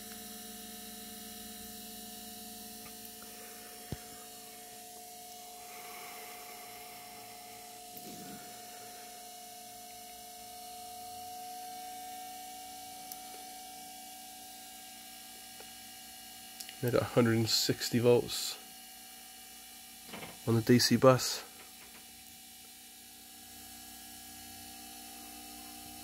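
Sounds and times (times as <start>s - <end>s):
electrical hum with whine: 0.0s - 26.0s.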